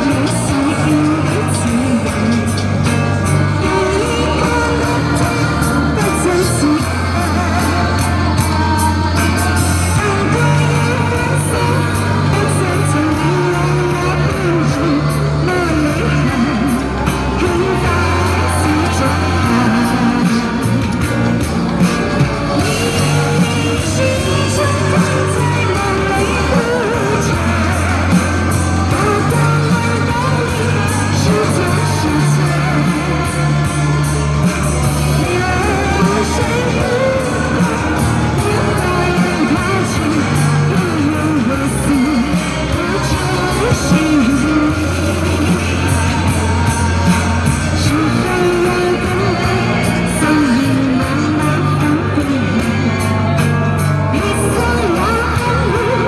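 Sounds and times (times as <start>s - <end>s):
band backing with bass line: 0.0s - 56.0s
person singing pop song: 0.0s - 56.0s.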